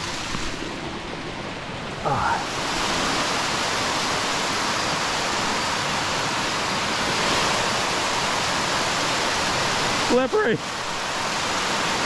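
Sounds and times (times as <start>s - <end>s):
water rushing over dam: 0.0s - 12.0s.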